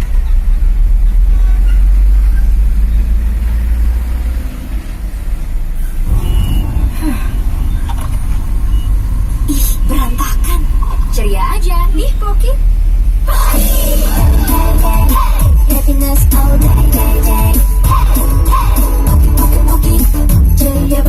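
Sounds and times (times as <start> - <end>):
heavy vehicles passing: 0.0 - 21.0.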